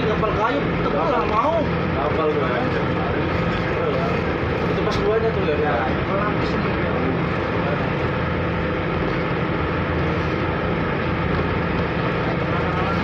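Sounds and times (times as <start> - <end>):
ferry engine droning: 0.0 - 13.0
wind: 0.0 - 13.0.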